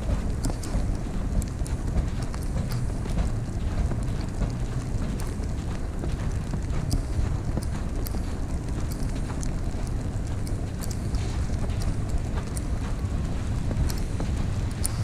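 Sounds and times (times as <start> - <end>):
sharp high ticks: 0.0 - 15.0
wind rumbling on microphone: 0.0 - 15.0.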